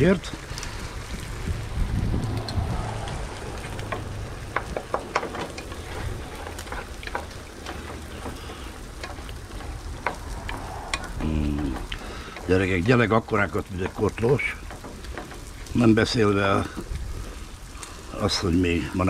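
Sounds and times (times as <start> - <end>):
low rumble: 0.0 - 17.8
beans sizzling in a pan: 0.0 - 19.0.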